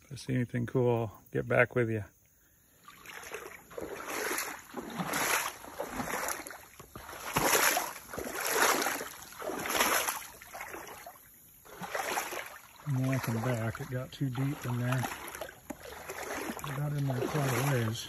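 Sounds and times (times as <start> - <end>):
wading through water: 2.3 - 18.0.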